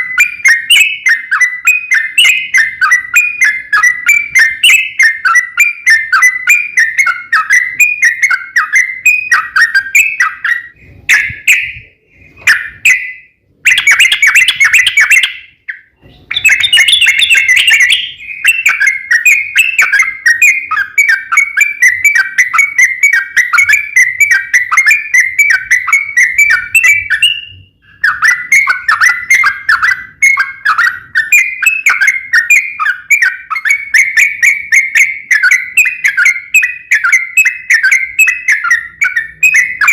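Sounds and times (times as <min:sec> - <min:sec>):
bird singing bubbly whistled notes: 0:00.0 - 0:39.9.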